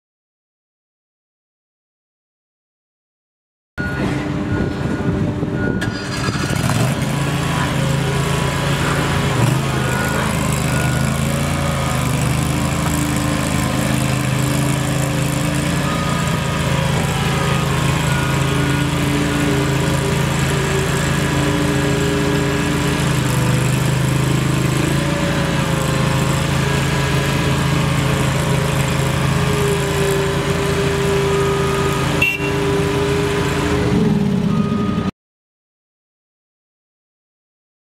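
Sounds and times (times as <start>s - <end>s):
hydraulic whine: 3.8s - 35.1s
loader engine running: 3.8s - 35.1s.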